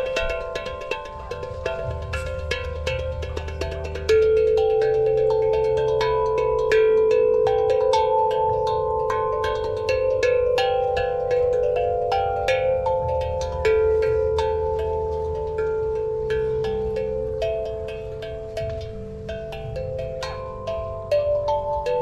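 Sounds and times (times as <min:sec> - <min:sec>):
steel tongue drum melody: 0:00.0 - 0:22.0.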